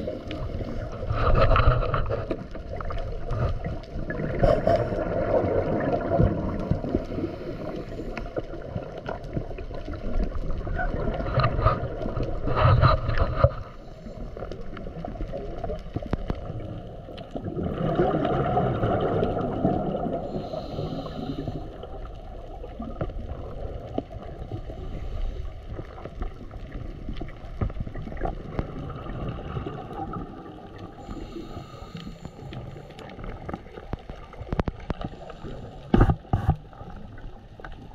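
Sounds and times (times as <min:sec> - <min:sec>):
bubbling gurgle: 0:00.0 - 0:31.8
underwater rushing water: 0:00.0 - 0:37.9.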